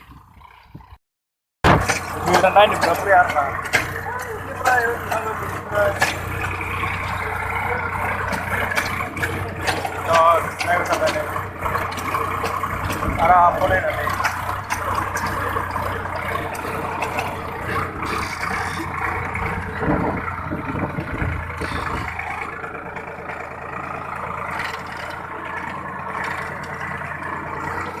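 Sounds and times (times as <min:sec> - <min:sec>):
motor engine running: 0:00.0 - 0:01.0, 0:01.6 - 0:28.0.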